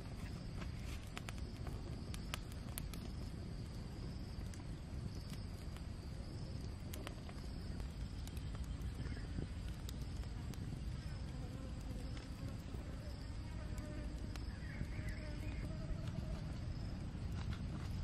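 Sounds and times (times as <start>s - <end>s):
campfire crackling and popping: 0.0s - 18.0s
crickets chirping: 0.0s - 18.0s.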